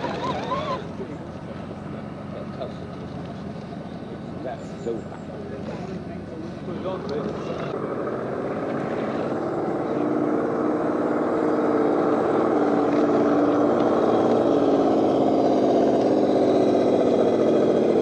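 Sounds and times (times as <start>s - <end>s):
electric motor and gears whining: 0.0s - 1.3s, 1.9s - 18.0s.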